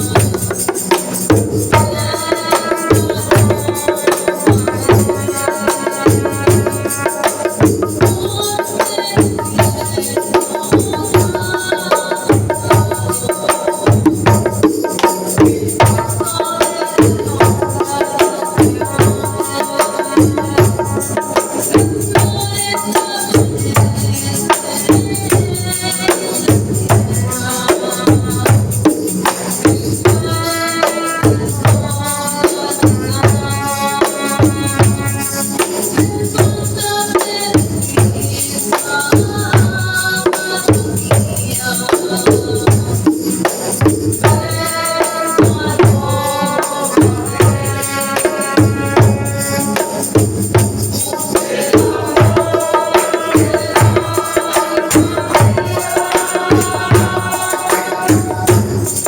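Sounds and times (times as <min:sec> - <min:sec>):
hand drums beat: 0:00.0 - 0:59.0
tambourine jingles: 0:00.0 - 0:59.0.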